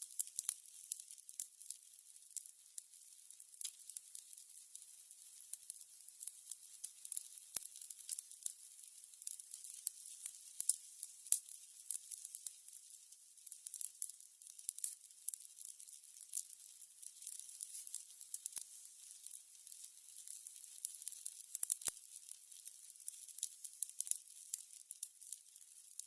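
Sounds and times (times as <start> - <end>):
candle flames hissing: 0.0 - 13.1, 14.8 - 25.8
wicks crackling and popping: 0.0 - 26.0.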